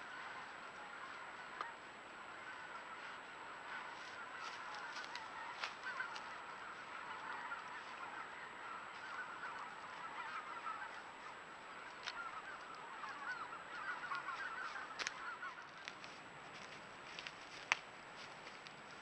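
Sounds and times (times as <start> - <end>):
flock of geese honking: 0.0 - 19.0.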